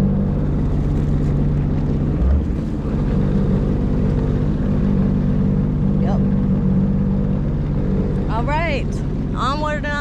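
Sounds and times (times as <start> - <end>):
jet ski engine running: 0.0 - 10.0.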